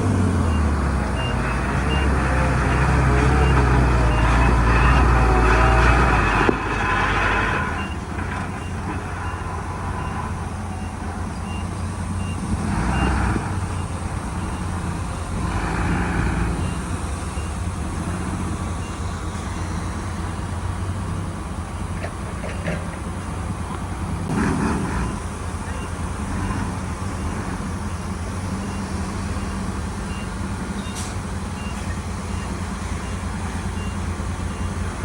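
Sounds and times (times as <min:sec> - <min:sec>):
heavy diesel machinery running: 0:00.0 - 0:35.0
reversing alarm beeping: 0:00.1 - 0:15.1, 0:15.8 - 0:23.5, 0:24.9 - 0:35.0.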